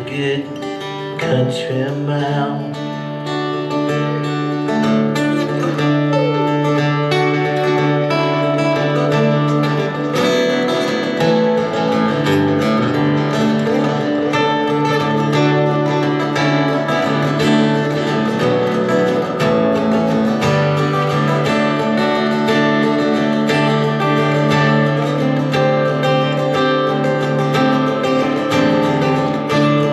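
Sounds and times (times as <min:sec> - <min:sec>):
acoustic guitar strumming chords: 0:00.0 - 0:29.9.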